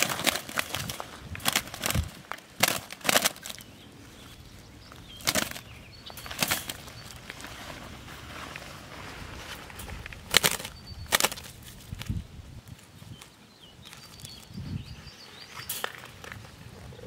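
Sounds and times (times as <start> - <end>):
doves flapping wings: 0.0 - 4.0, 4.8 - 14.6.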